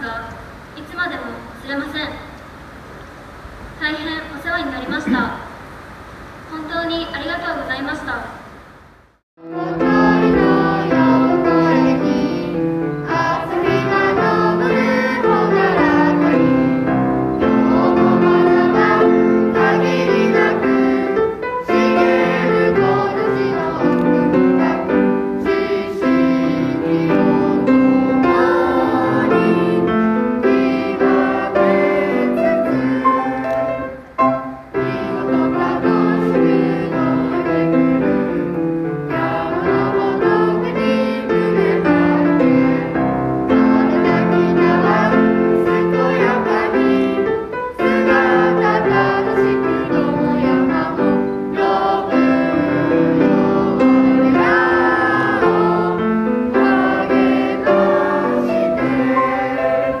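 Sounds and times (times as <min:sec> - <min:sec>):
children and adults singing: 0:09.4 - 1:00.0
piano accompaniment: 0:09.4 - 1:00.0.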